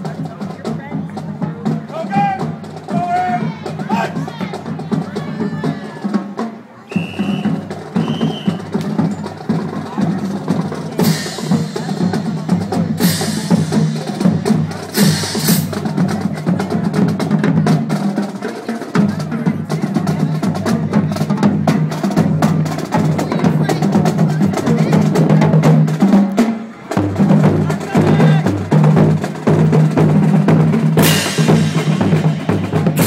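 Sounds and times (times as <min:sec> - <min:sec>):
snare drums rattling: 0:00.0 - 0:33.0
tenor and bass drums: 0:00.0 - 0:33.0.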